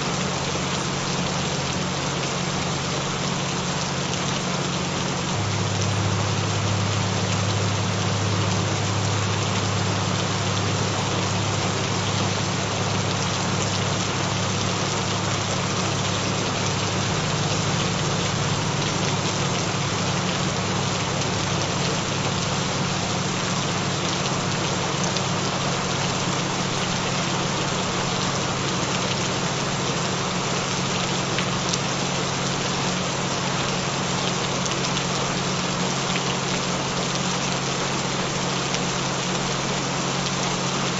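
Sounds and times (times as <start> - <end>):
rain falling: 0.0 - 40.9
low humming tones: 0.1 - 33.8.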